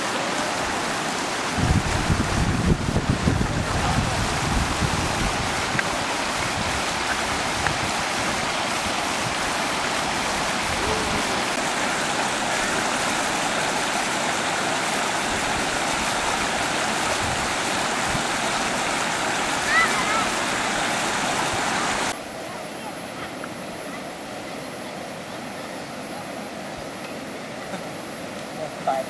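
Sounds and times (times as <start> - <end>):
waterfall and stream rushing: 0.0 - 29.0.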